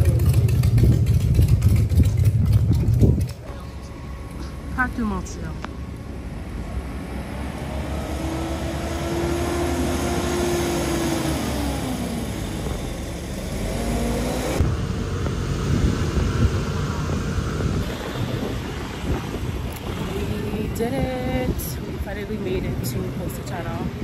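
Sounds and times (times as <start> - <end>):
vehicle engine passing: 0.0 - 21.5
outdoor background noise: 0.0 - 24.0.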